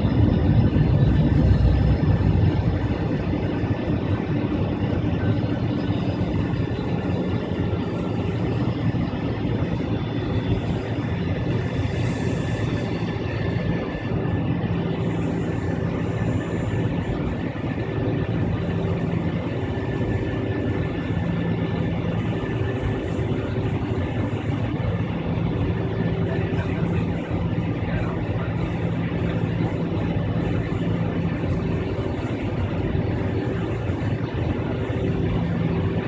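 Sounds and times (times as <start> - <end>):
jet engines humming from cabin: 0.0 - 36.0.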